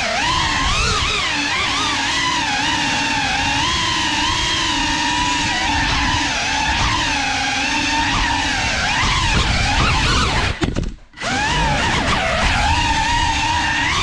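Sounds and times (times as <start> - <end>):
drone motors and props whining: 0.0 - 14.0.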